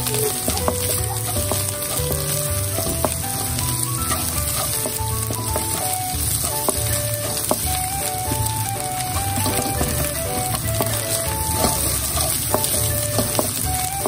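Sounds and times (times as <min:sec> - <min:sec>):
spatula scraping a pan: 0:00.0 - 0:07.8, 0:08.8 - 0:13.9
food sizzling in hot oil: 0:00.0 - 0:14.0.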